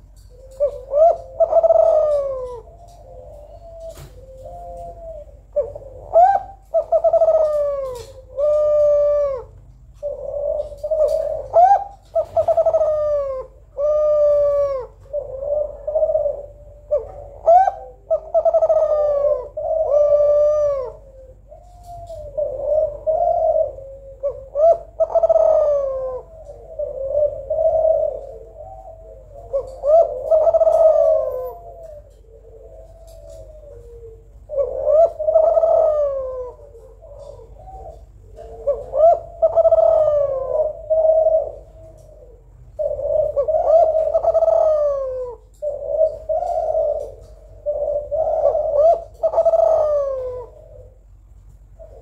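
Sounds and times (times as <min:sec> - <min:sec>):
dove cooing: 0:00.0 - 0:52.0.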